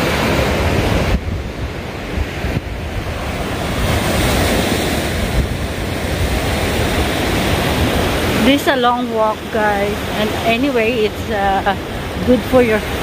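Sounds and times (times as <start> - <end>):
surf breaking on beach: 0.0 - 13.0
wind rumbling on microphone: 0.0 - 13.0.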